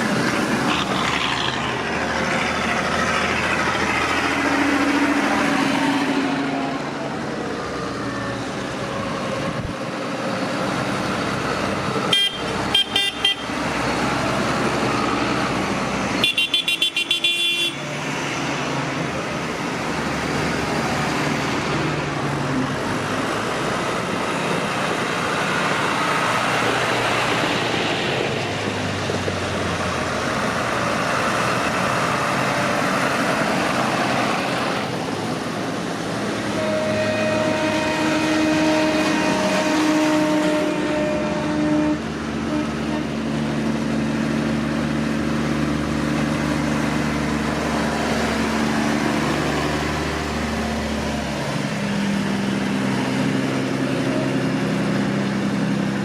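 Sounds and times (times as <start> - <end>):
tractor engines driving past: 0.0 - 56.0.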